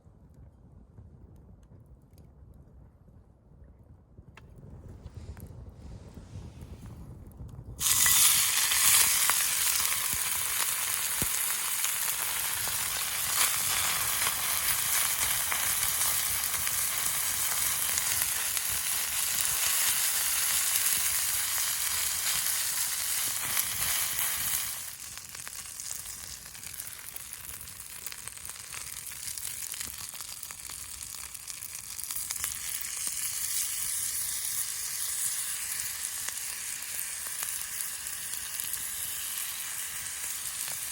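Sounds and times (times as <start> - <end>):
food sizzling in a pan: 7.8 - 40.9.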